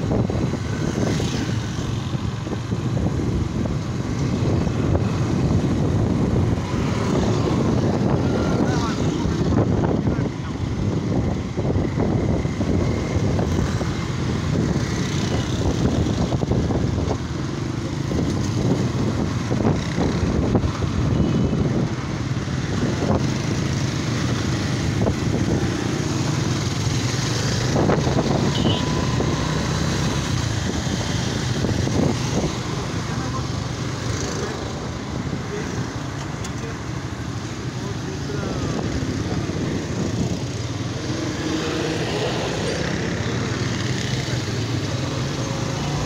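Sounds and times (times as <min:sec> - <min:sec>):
wind buffeting microphone: 0:00.0 - 0:45.9
passing cars and motorbikes: 0:00.0 - 0:46.0.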